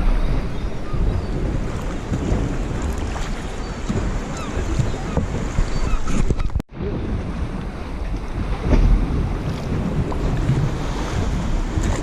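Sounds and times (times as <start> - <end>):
lake water lapping: 0.0 - 12.0
wind buffeting microphone: 0.0 - 12.0.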